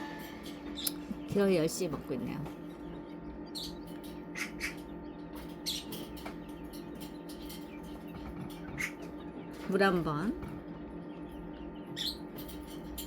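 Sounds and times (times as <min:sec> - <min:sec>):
baby birds peeping: 0:00.0 - 0:13.0
steady low hum: 0:00.0 - 0:13.0.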